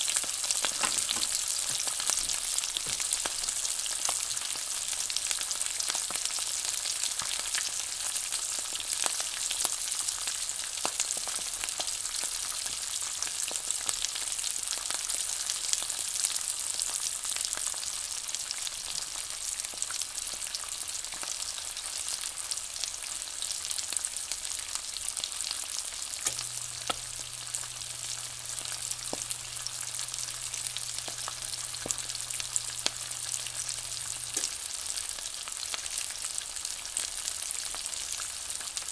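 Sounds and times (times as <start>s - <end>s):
eggs sizzling in oil: 0.0s - 38.9s.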